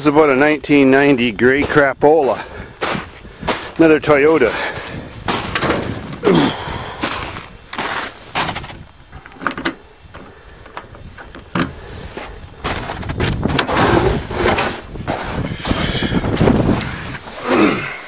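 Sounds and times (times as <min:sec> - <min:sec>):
rustling and scraping snow: 0:00.1 - 0:08.8, 0:11.8 - 0:18.0.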